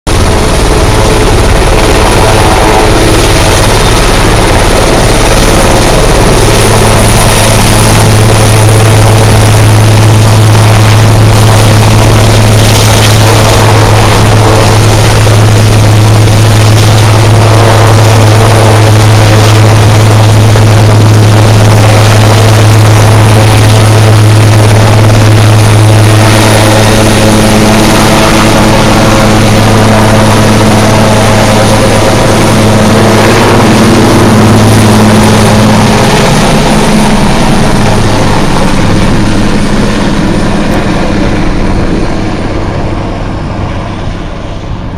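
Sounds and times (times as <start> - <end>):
helicopter running: 0.1 - 44.9.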